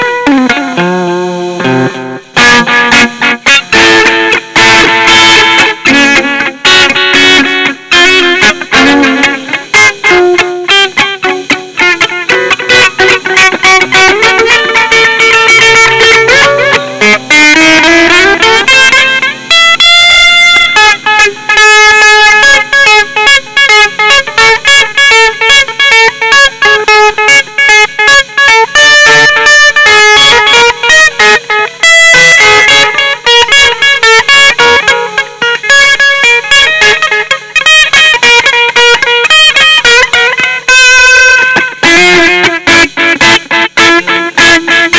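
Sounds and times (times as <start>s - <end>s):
electric guitar rock song: 0.0s - 44.9s.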